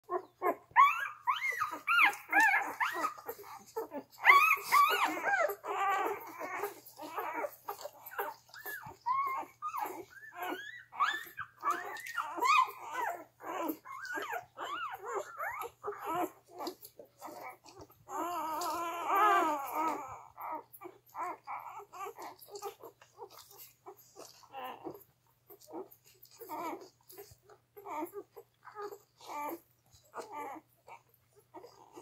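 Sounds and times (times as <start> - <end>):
puppies squeaking and whimpering: 0.0 - 32.0.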